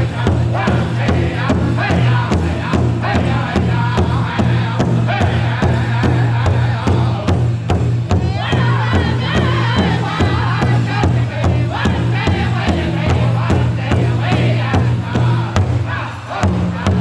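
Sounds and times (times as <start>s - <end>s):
group singing in high voices: 0.0s - 7.5s, 8.2s - 17.0s
big drum beat: 0.0s - 17.0s.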